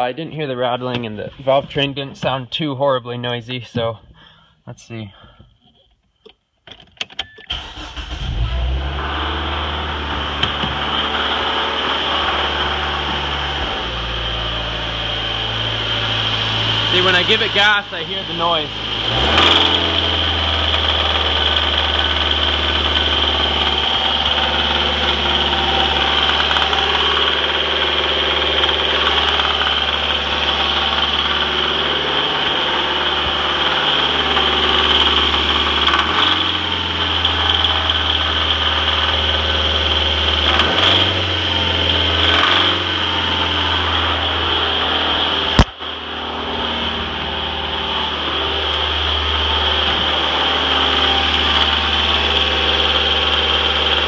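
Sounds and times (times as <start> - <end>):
car engine running: 7.5 - 54.0.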